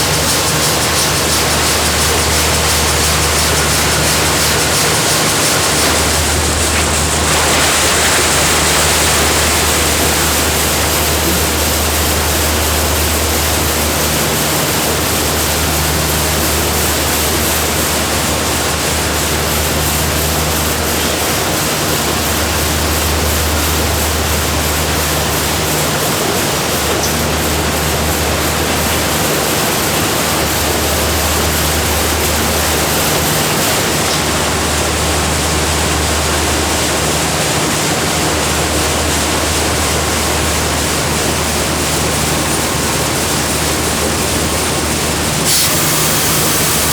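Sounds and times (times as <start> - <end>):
factory machinery rushing: 0.0 - 46.9.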